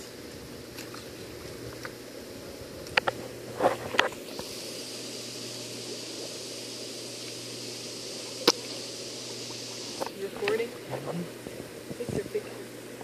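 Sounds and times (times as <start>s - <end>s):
churning water hiss: 0.0s - 13.0s
pump humming: 0.0s - 13.0s.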